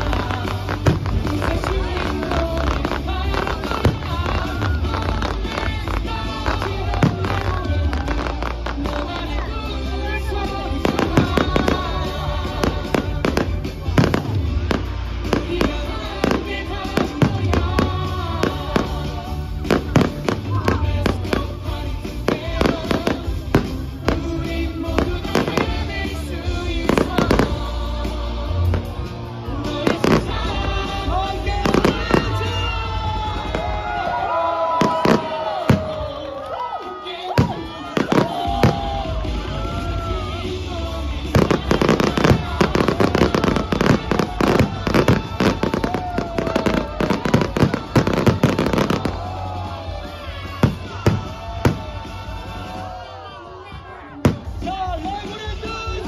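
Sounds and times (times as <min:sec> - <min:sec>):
fireworks bursting with sharp bangs: 0:00.0 - 0:53.2, 0:54.2 - 0:56.0
show music: 0:00.0 - 0:56.0.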